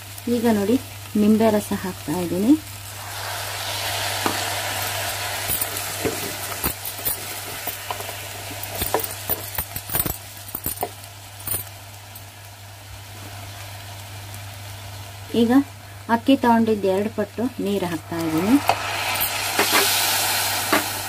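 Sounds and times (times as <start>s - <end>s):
rice frying in oil sizzling: 0.0s - 21.0s.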